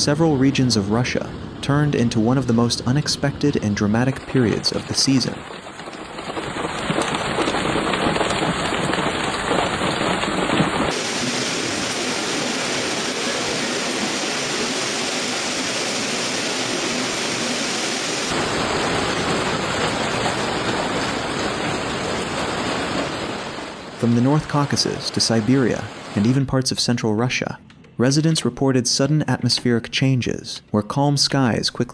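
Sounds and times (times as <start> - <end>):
heavy rain downpour: 0.0 - 26.4.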